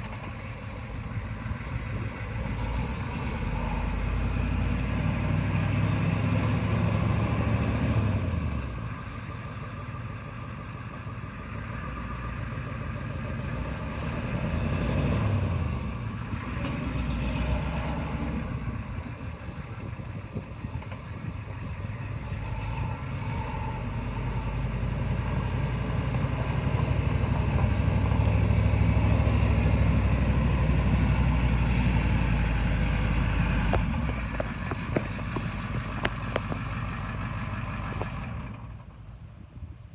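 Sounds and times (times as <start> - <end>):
truck engine running: 0.0 - 39.5.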